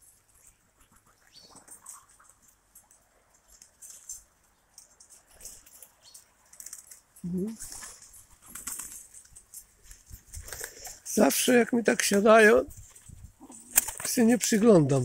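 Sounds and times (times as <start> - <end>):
pigeons walking and pecking: 0.0 - 15.0.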